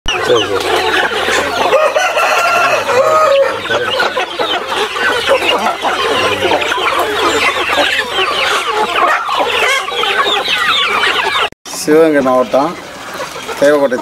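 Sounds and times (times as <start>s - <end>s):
chickens clucking and calling: 0.1s - 14.0s.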